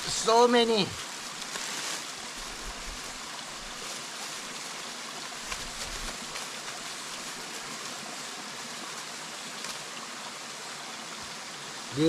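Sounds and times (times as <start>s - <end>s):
stream running: 0.0s - 12.0s.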